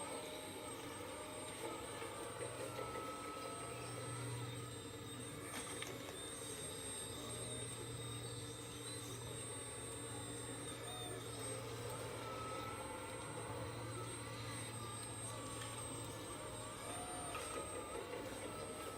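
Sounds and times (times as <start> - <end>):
hydraulic pump hum: 0.0 - 18.9
hydraulic whining tones: 0.0 - 18.9.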